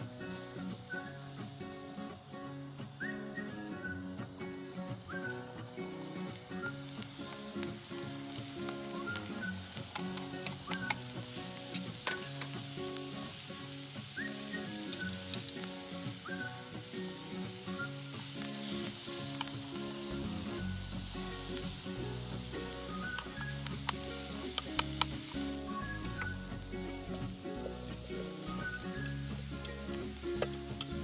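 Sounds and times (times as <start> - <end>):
fire crackling and spitting: 0.0 - 31.0
food sizzling in a pan: 0.0 - 31.0
soft background music: 0.0 - 31.0.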